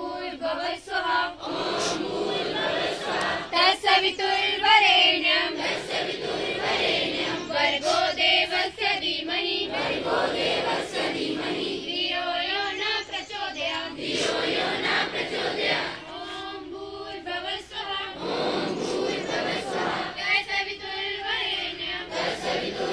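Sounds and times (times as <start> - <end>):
girls singing in unison: 0.0 - 22.9.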